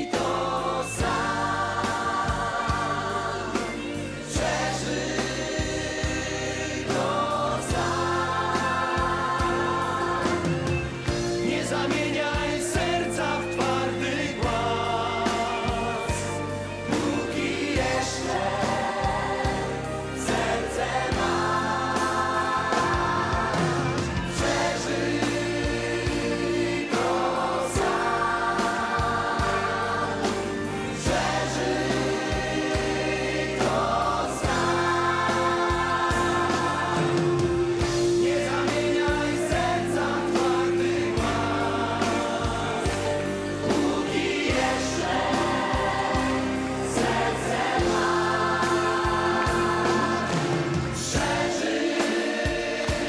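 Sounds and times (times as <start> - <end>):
band with steady drum beat: 0.0 - 53.0
choir singing long notes: 0.0 - 53.0.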